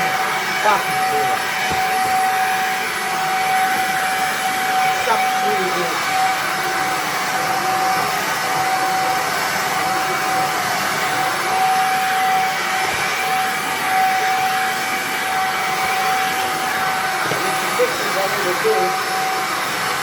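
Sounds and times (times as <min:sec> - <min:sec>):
stick vacuum cleaner running: 0:00.0 - 0:20.0.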